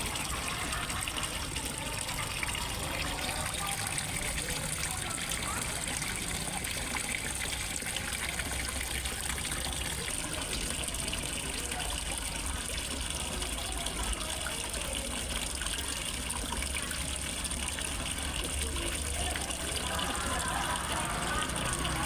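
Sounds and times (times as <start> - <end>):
waterfall splashing into pond: 0.0 - 22.0.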